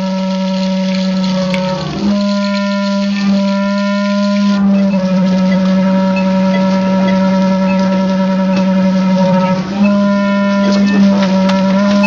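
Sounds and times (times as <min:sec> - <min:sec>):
low droning wind instrument tone: 0:00.0 - 0:12.0.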